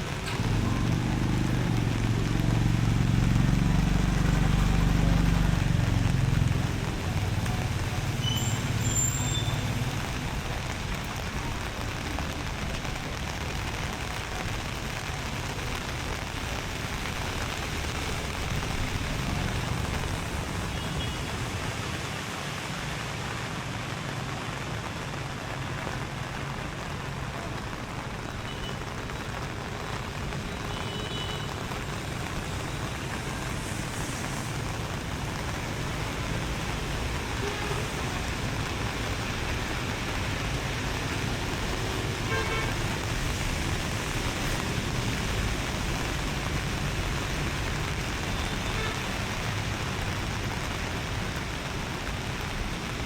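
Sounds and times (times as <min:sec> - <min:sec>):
low traffic rumble: 0:00.0 - 0:53.0
rain pattering on hard surfaces: 0:00.0 - 0:53.0.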